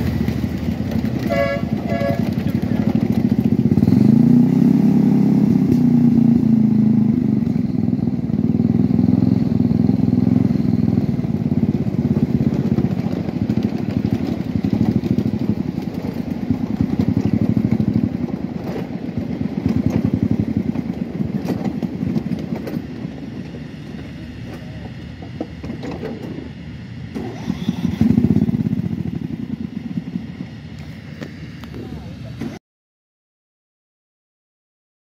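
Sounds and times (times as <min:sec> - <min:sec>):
small train engine running: 0:00.0 - 0:32.6.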